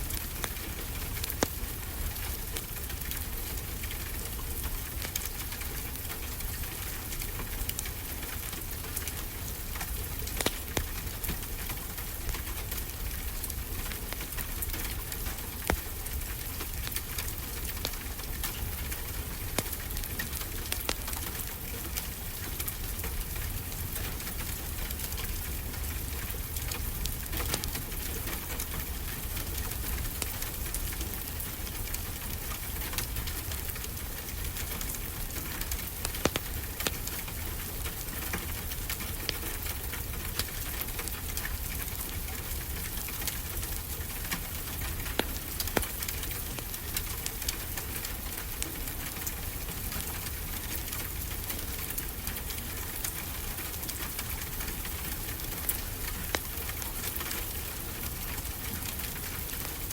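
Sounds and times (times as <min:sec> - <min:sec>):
rain hiss: 0:00.0 - 0:59.9
wood fire crackling: 0:00.0 - 0:59.9.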